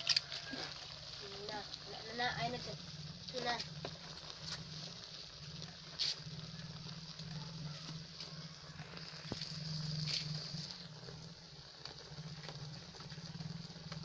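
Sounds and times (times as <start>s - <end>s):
stew simmering with pops: 0.0s - 14.0s.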